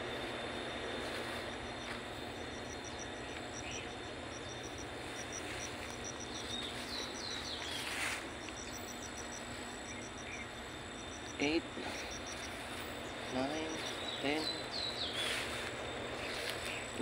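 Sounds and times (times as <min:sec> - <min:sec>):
insect chirping: 0:00.0 - 0:17.0
outdoor background noise: 0:00.0 - 0:17.0.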